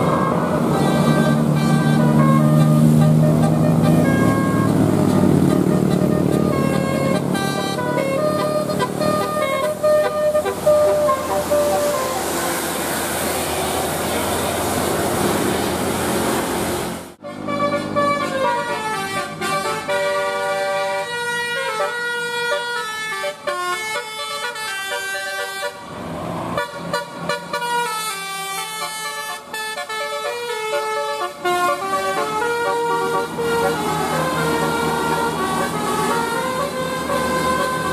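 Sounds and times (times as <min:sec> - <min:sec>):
bus horn playing a tune: 0:00.0 - 0:14.6, 0:17.2 - 0:37.9
traffic and engine noise: 0:00.0 - 0:37.9.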